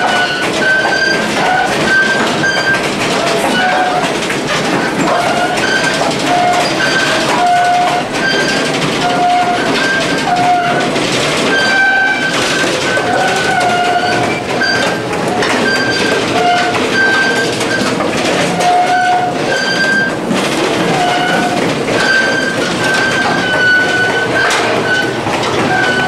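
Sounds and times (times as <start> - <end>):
high metallic squeals: 0.0 - 26.0
train rumble and rattle: 0.0 - 26.0.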